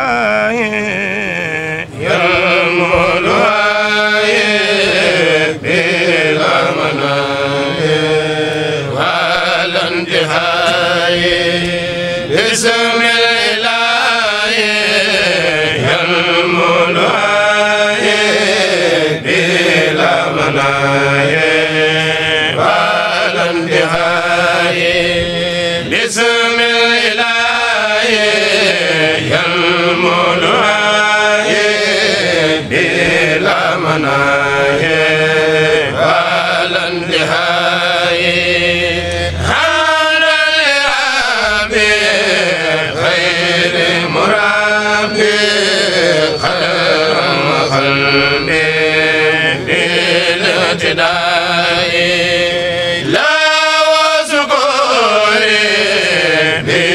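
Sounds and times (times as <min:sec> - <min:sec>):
voices chanting devotional song: 0:00.0 - 0:56.9.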